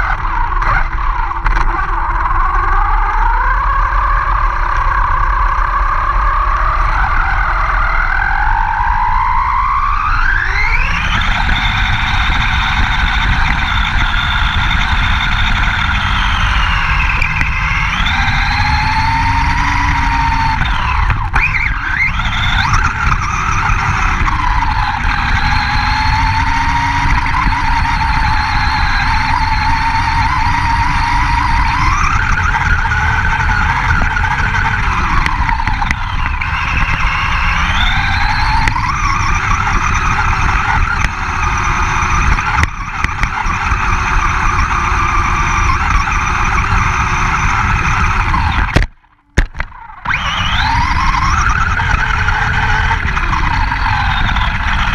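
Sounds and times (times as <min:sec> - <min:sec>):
toy truck motor whine: 0:00.0 - 0:54.9.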